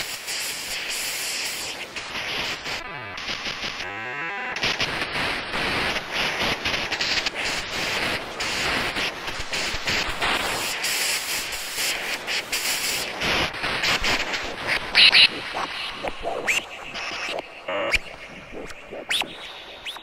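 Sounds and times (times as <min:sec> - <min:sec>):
crackling electronic static: 0:00.0 - 0:20.0.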